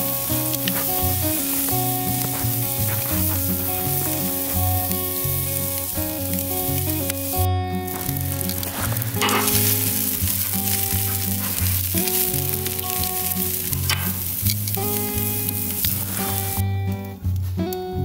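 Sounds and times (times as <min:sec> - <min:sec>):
steak sizzling on a grill: 0:00.0 - 0:16.6
background music: 0:00.0 - 0:18.0.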